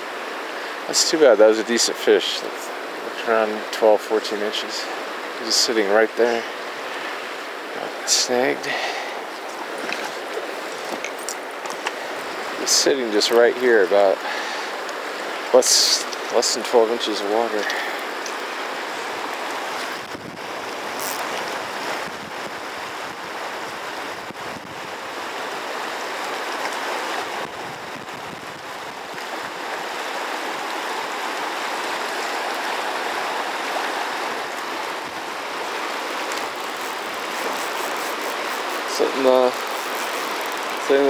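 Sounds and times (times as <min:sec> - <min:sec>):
river water rushing over rocks: 0:00.0 - 0:41.0.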